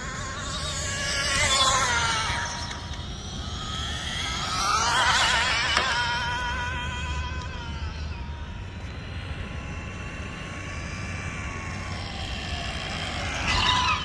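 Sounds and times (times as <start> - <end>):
electric rc car motor whining: 0.0 - 8.1, 9.2 - 14.0.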